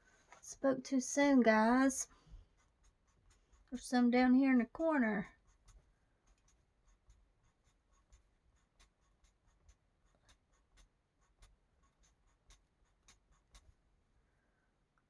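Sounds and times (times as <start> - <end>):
colouring tool scratching on paper: 1.6 - 13.7.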